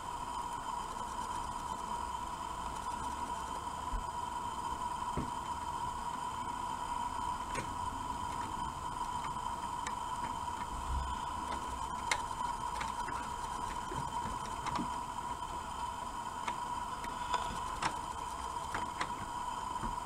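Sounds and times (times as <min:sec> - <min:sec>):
steady whine: 0:00.0 - 0:20.0.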